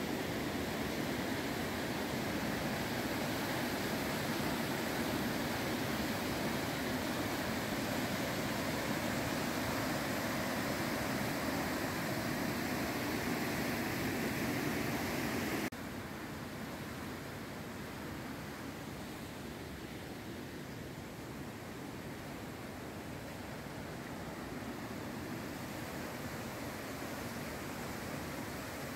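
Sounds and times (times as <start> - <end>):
river rushing: 0.0 - 28.9.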